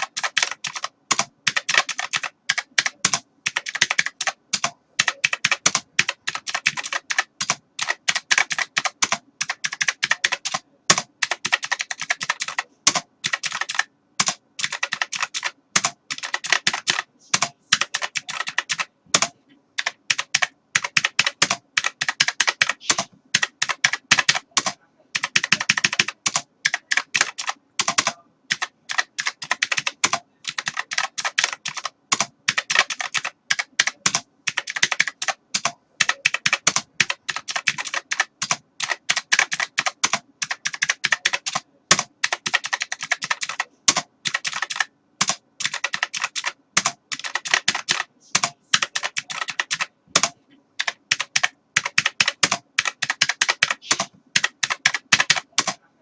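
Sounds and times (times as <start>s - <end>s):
keyboard typing clicks: 0.0s - 55.8s.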